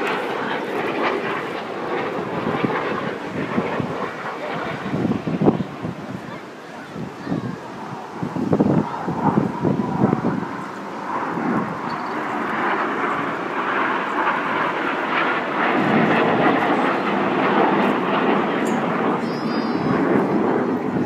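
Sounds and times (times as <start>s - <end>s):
jet engines roaring past: 0.0s - 21.0s
wind buffeting microphone: 0.0s - 21.0s.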